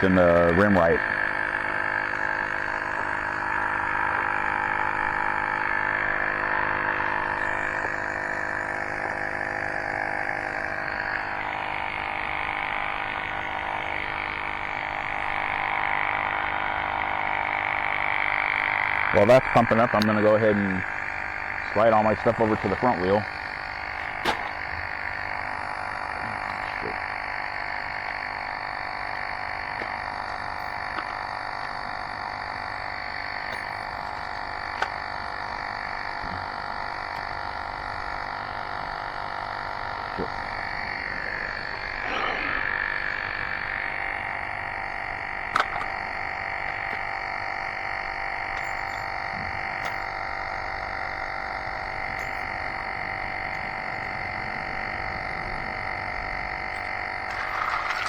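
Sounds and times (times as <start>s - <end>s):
electric tire pump buzzing: 0.0s - 58.0s.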